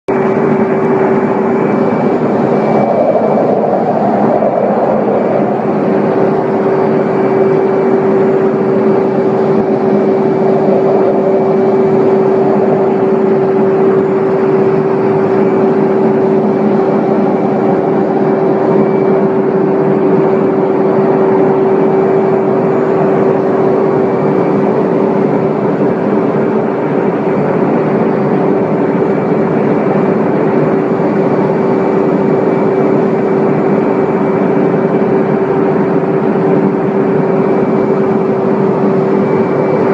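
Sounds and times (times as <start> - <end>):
airplane droning in flight: 0.0 - 39.9.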